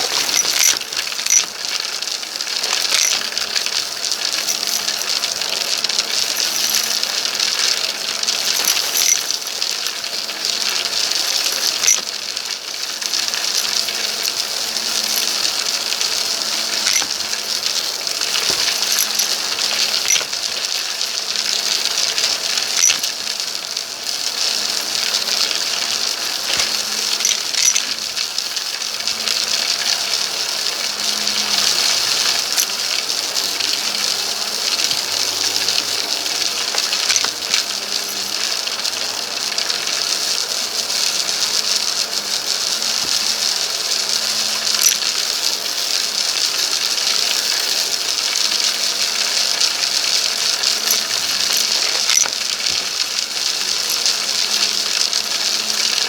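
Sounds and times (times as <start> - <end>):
debris clicking and rattling: 0.0 - 40.4, 44.2 - 46.5, 47.1 - 56.0.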